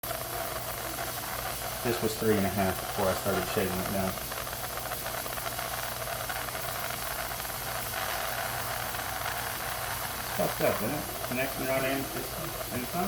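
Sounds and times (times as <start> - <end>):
steam engine hissing: 0.1 - 13.0.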